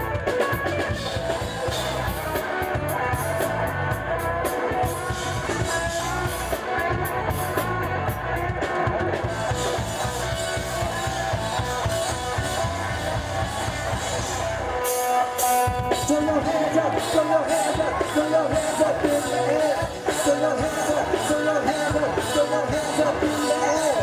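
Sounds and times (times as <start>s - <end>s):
live band playing disco-funk: 0.0s - 24.0s.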